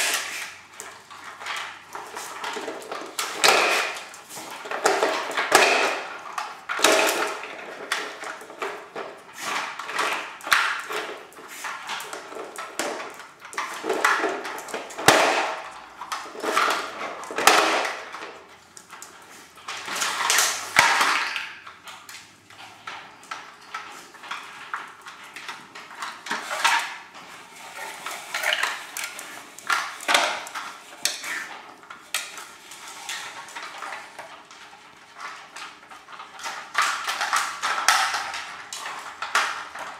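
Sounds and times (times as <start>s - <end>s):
plastic toys clattering on tiles: 0.0s - 39.9s.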